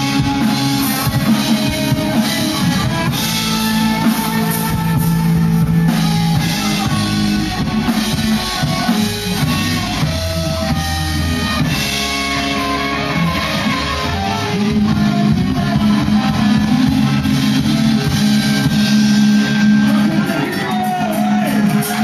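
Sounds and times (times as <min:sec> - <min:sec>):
bass line: 0:00.0 - 0:22.0
electric guitar notes: 0:00.0 - 0:22.0.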